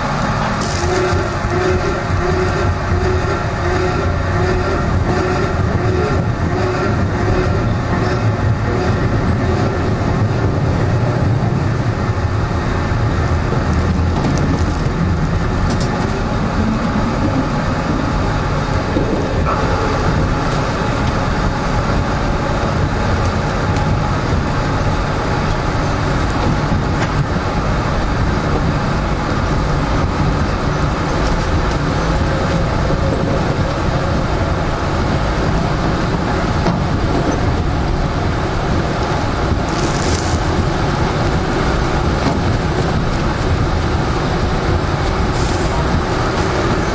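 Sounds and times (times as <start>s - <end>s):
rumble of train wheels on rail: 0.0s - 46.9s.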